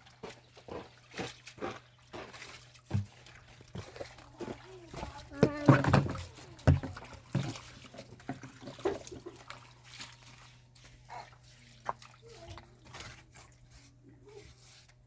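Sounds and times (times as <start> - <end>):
low steady hum: 0.0 - 15.0
water splashing and trickling: 0.0 - 15.0.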